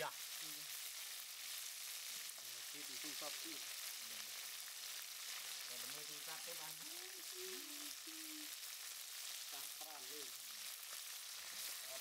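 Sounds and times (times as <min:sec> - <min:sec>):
frying in hot oil sizzling: 0:00.0 - 0:12.0.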